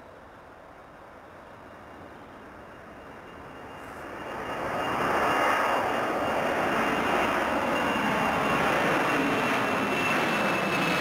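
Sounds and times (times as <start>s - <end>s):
high jet engine whine: 0.0s - 11.0s
jet airliner passing overhead: 0.6s - 11.0s.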